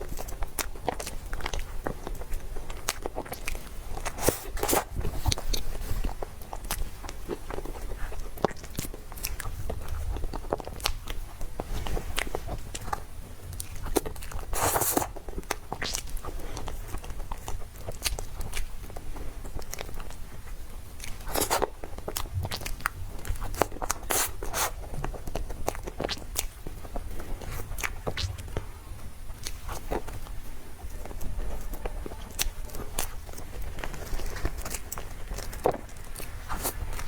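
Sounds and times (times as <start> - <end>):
cake being chewed: 0.0 - 37.0.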